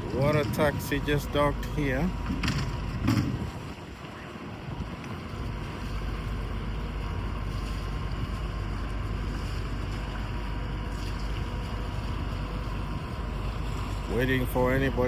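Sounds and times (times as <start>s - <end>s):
boat engine idling: 0.0s - 15.0s
faint steady hum: 0.0s - 15.0s
wind buffeting microphone: 0.0s - 15.0s.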